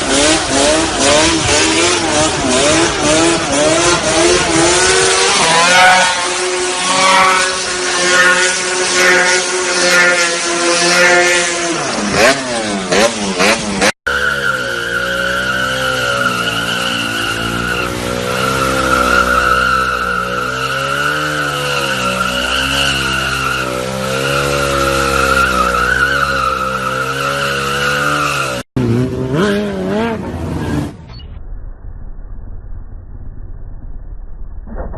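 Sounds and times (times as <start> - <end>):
motorcycle engine revving: 0.0 - 14.4, 15.2 - 31.0.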